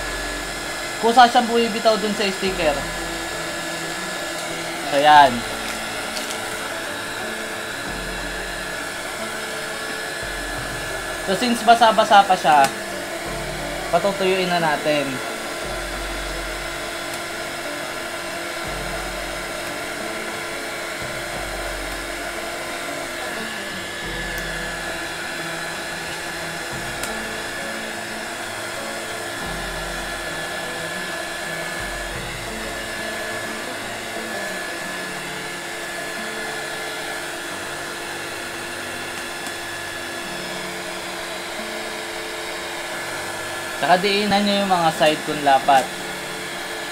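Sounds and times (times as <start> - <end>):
heat gun blowing hot air: 0.0 - 46.9.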